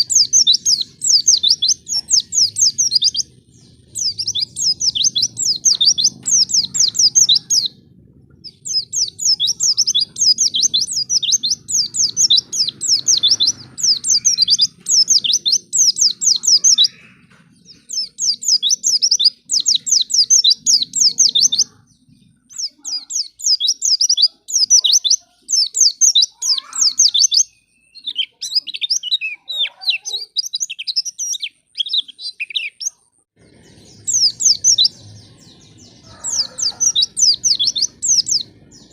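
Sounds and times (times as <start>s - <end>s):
white-eye bird twittering song: 0.0s - 38.9s.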